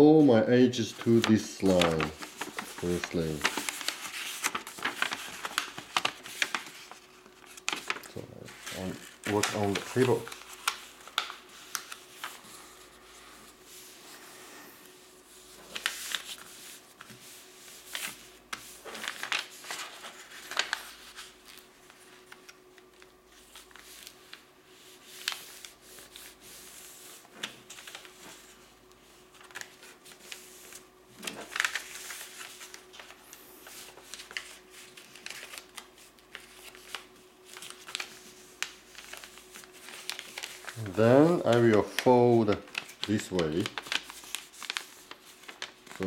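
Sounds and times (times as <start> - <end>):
paper rustling and creasing: 0.0 - 46.0.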